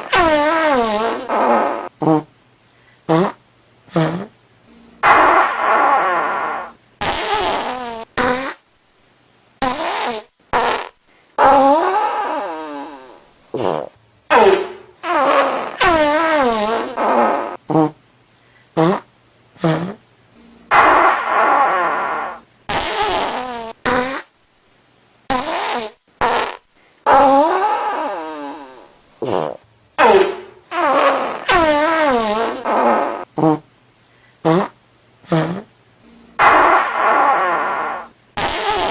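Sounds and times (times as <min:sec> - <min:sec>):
fart sound effects: 0:00.0 - 0:02.3, 0:03.1 - 0:04.3, 0:05.0 - 0:08.6, 0:09.6 - 0:18.0, 0:18.8 - 0:20.0, 0:20.7 - 0:24.3, 0:25.3 - 0:33.7, 0:34.4 - 0:35.7, 0:36.4 - 0:38.9.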